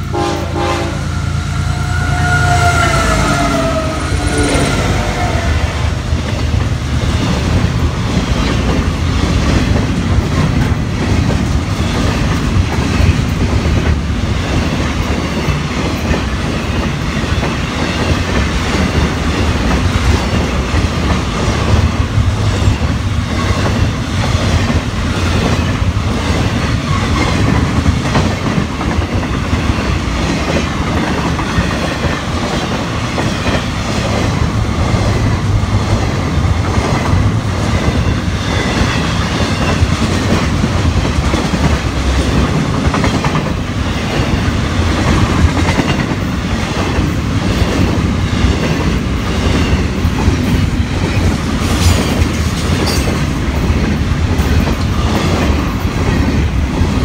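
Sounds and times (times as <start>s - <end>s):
train wheels rumbling on rails: 0.0s - 57.0s
clickety-clack over rail joints: 6.1s - 57.0s.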